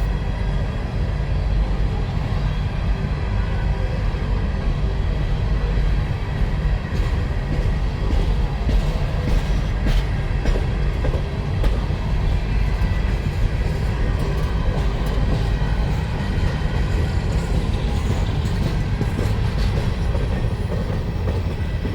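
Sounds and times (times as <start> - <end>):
freight train wheels clattering: 0.0 - 21.9.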